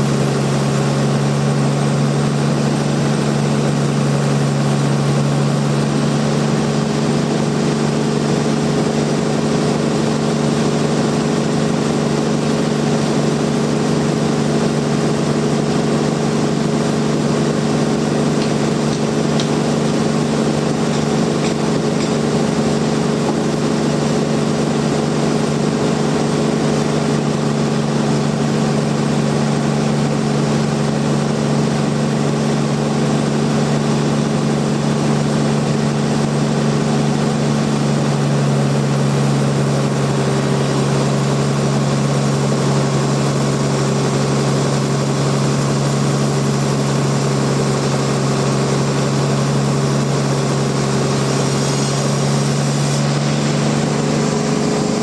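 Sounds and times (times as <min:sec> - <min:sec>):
bandsaw mill humming: 0:00.0 - 0:31.0, 0:32.5 - 0:55.0.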